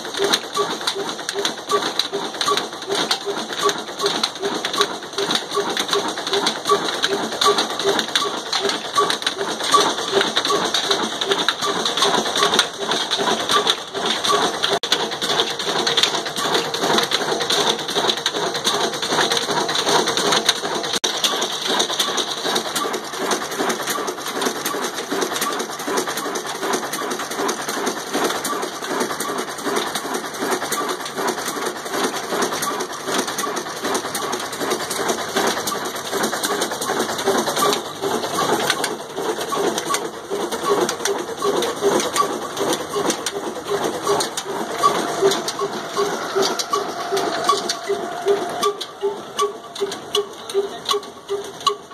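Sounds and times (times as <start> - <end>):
diesel engine clattering: 0.0 - 51.9.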